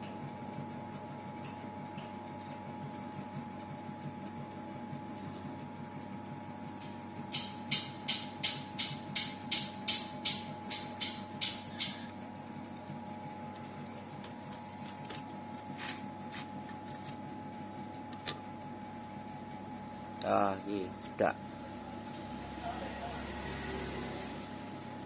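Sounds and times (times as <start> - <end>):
steady high hum: 0.0 - 25.0.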